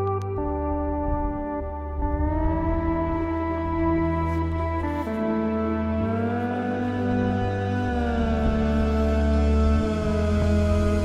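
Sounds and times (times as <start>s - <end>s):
sustained synthesizer chords: 0.0s - 11.0s.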